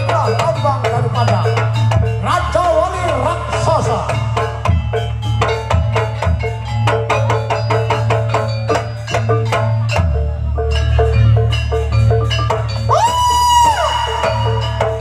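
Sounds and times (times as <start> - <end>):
drum strokes: 0.0 - 15.0
low bass: 0.0 - 15.0
metal mallet percussion: 0.0 - 15.0.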